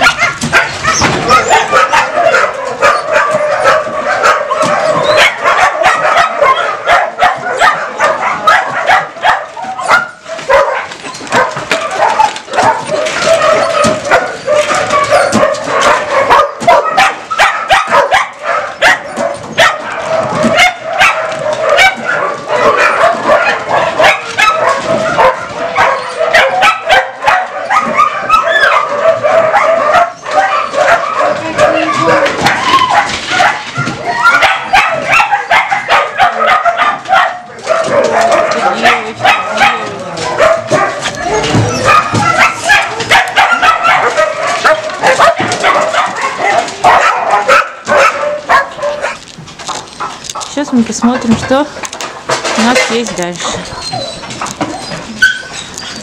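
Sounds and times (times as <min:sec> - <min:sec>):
many dogs barking: 0:00.0 - 0:56.0.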